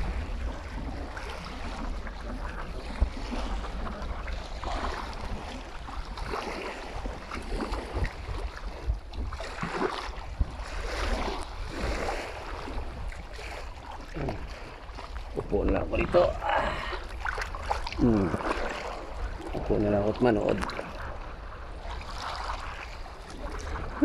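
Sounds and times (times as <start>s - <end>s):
lake water lapping: 0.0s - 24.0s
wind on microphone: 0.0s - 24.0s.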